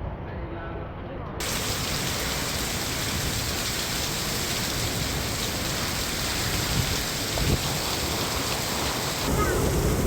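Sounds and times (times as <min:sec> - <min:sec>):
heavy rain falling: 0:01.4 - 0:10.0
strong wind rumble: 0:01.4 - 0:10.0.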